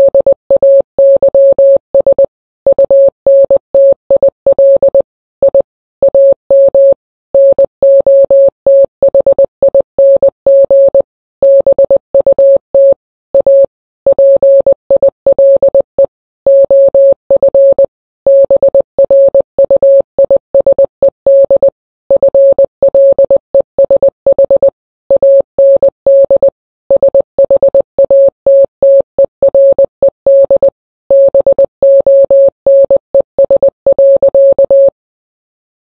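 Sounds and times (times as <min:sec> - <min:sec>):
morse code beeps: 0:00.0 - 0:35.0.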